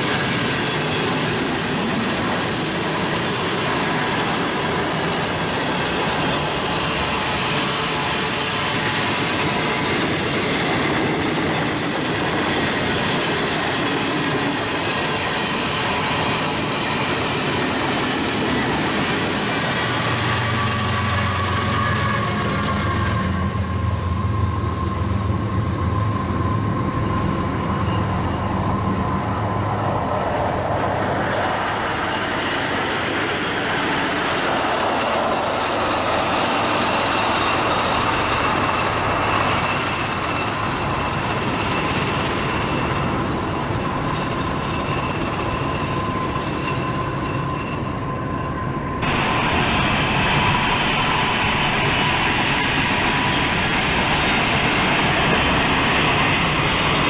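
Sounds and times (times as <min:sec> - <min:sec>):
train wheels rumbling on rails: 0:00.0 - 0:51.2.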